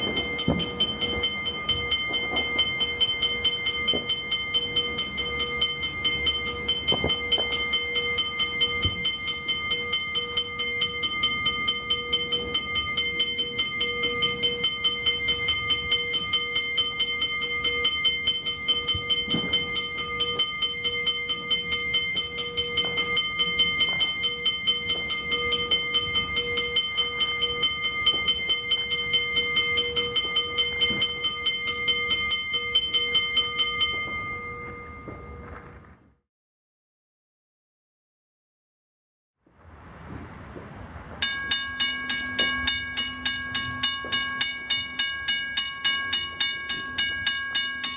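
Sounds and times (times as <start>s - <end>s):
railroad crossing bell ringing: 0.0s - 35.9s, 39.6s - 47.9s.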